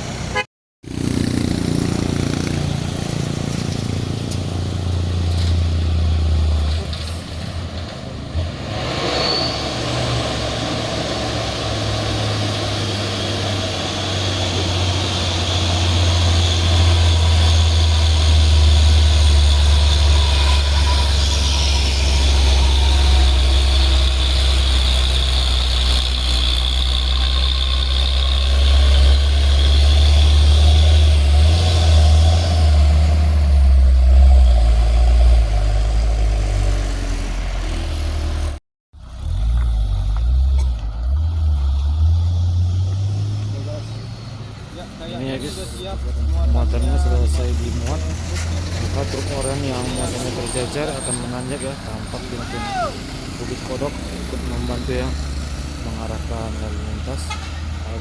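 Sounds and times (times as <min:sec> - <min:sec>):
diesel truck engine droning: 0:01.3 - 0:58.0.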